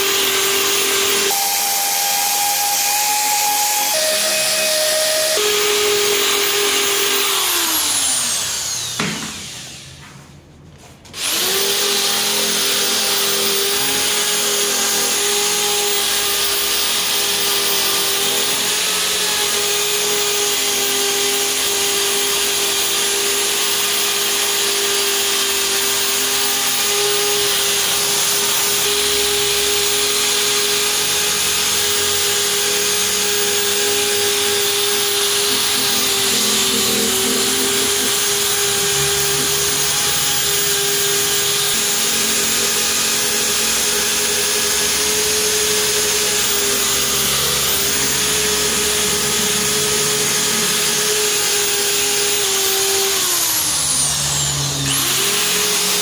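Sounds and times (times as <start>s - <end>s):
electric grinder whining: 0.0s - 10.0s, 11.2s - 56.0s.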